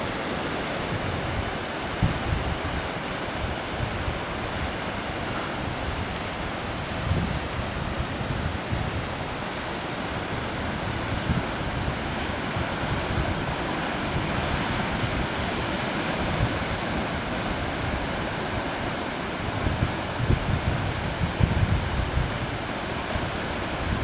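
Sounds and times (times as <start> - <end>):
waves washing on rocks: 0.0 - 24.0
wind buffeting microphone: 0.0 - 24.0.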